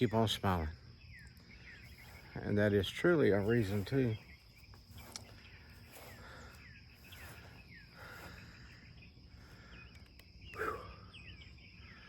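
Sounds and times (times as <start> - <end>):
insect chirps: 0.0 - 12.0
insects droning: 0.0 - 12.0.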